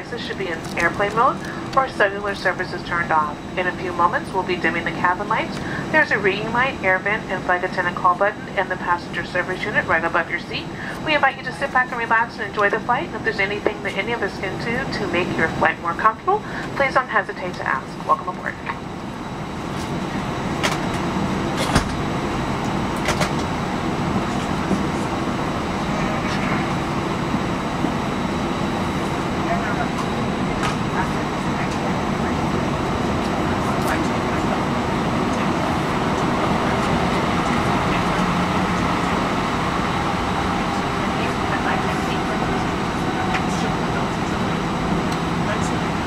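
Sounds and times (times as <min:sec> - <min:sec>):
aircraft cabin engine rumble: 0:00.0 - 0:46.0.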